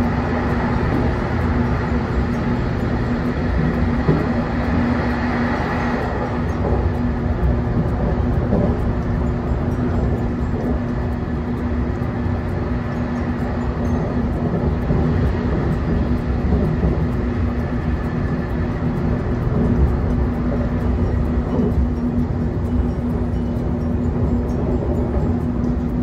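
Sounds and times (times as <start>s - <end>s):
steady train hum: 0.0s - 26.0s
train wheels rumbling on rails: 0.0s - 26.0s.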